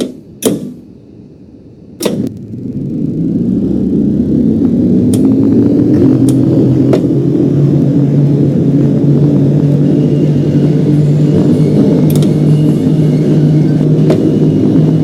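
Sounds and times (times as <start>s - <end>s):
subway train rumbling: 0.0s - 15.0s
motor whine: 0.9s - 15.0s.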